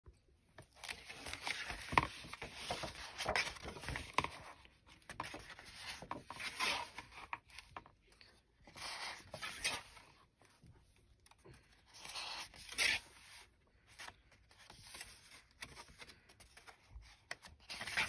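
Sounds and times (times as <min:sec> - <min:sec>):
paper pages rustling: 0:00.5 - 0:18.0.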